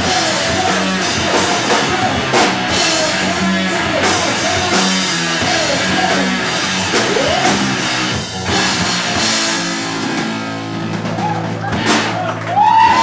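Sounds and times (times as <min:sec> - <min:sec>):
bass guitar: 0:00.0 - 0:13.0
distorted electric guitar: 0:00.0 - 0:13.0
drum kit: 0:00.0 - 0:13.0.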